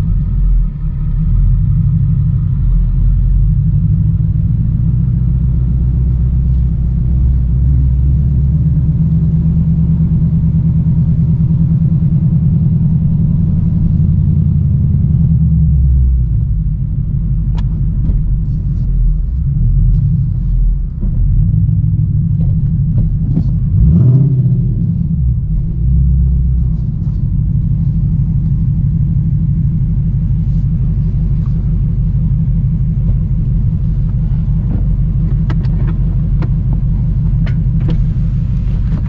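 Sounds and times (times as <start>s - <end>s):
car engine and exhaust rumbling: 0.0s - 39.0s.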